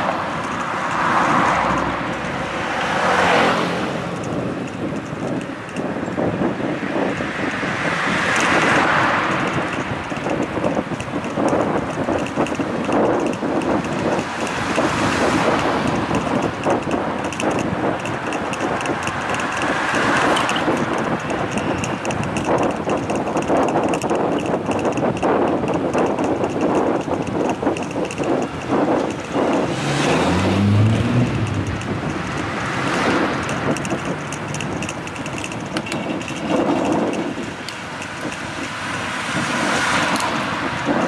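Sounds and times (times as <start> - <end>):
road noise: 0.0 - 41.0
traffic noise: 0.0 - 41.0
wind rushing over microphone: 0.0 - 41.0.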